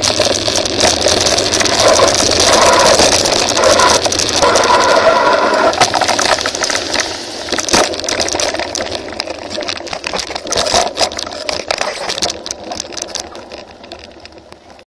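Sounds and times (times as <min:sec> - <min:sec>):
bike rattling over rough ground: 0:00.0 - 0:14.8
tyre and wind noise: 0:00.0 - 0:14.8.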